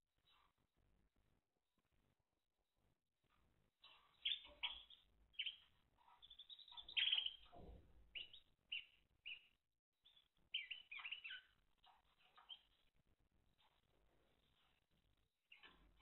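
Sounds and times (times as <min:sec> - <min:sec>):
canary chirping: 0:00.2 - 0:00.6, 0:03.2 - 0:16.0.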